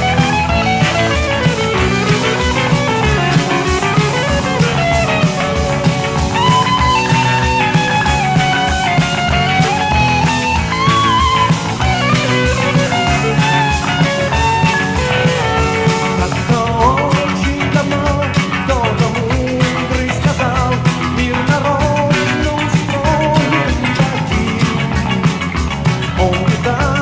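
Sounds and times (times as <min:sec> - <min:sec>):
rock song playing: 0:00.0 - 0:27.0
steady drum beat: 0:00.0 - 0:27.0.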